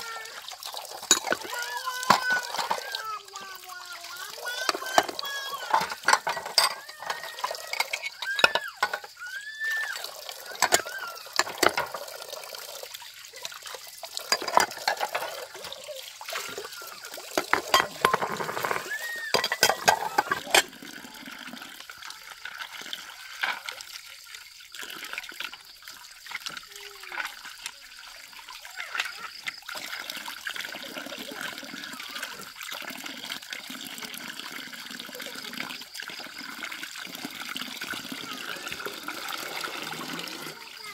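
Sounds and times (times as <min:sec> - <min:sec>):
water running and splashing: 0:00.0 - 0:40.9.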